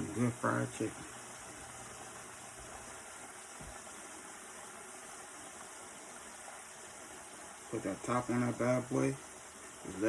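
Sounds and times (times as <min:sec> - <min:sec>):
chicken wings sizzling in oil: 0:00.0 - 0:10.0.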